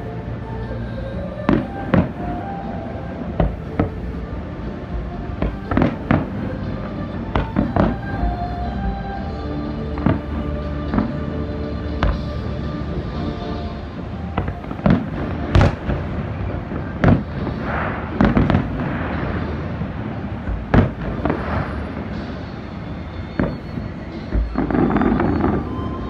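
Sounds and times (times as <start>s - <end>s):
fireworks bangs: 1.4s - 8.5s, 9.9s - 11.4s, 12.0s - 12.6s, 14.2s - 26.0s.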